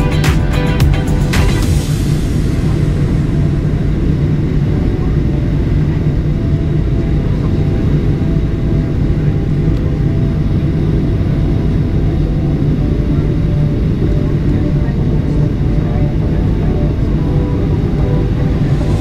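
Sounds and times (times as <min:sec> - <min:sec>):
aircraft cabin engine drone: 0:00.0 - 0:19.0.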